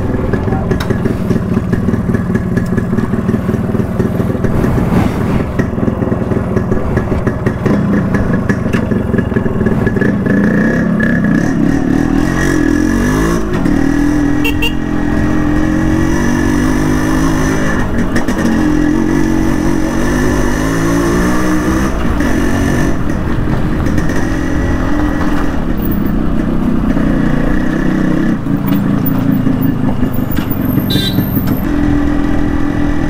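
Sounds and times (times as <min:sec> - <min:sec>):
motorcycle two-stroke engine running: 0:00.0 - 0:04.6, 0:05.5 - 0:32.8.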